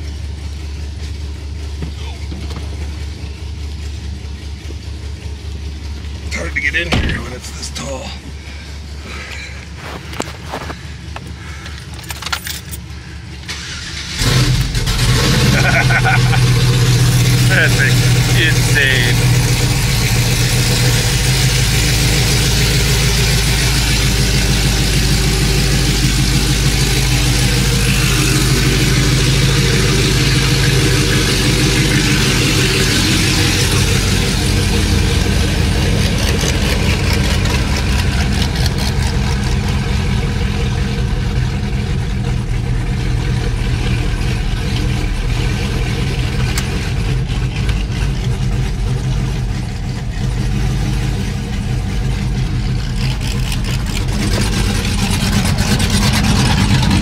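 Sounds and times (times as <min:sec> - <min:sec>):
car engine idling loudly: 0:00.0 - 0:57.0.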